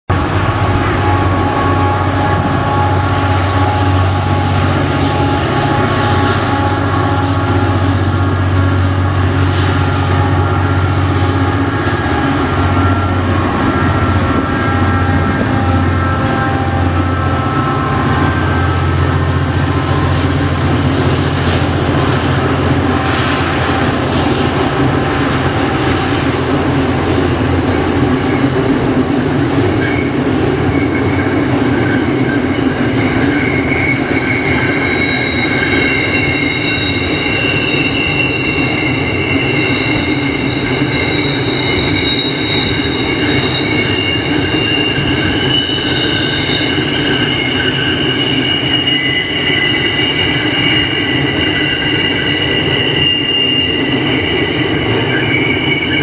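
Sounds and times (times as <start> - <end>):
diesel locomotive engines droning: 0.0 - 56.0
whining tones: 0.1 - 56.0.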